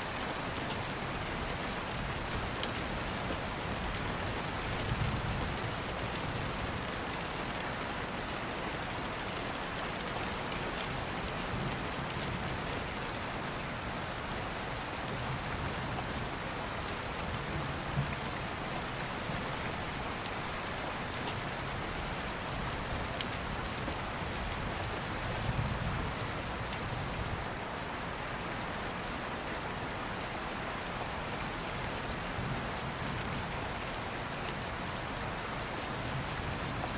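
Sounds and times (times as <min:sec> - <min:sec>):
steady rain hiss: 0:00.0 - 0:36.9.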